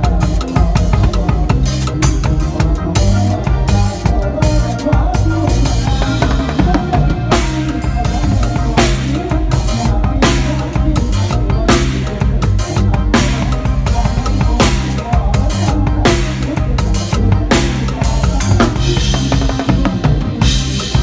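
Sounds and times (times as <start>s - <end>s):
band music with drums and bass: 0.0s - 21.0s.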